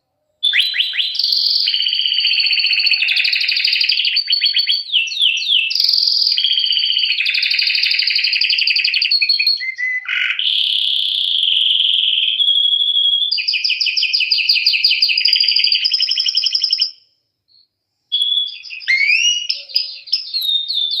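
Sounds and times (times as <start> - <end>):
canary singing trills: 0.3 - 17.0, 18.1 - 21.0.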